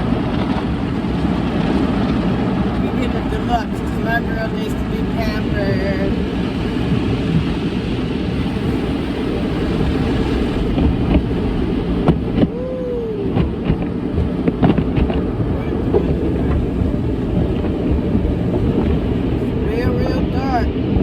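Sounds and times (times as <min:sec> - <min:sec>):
car wash water spray: 0:00.0 - 0:21.0.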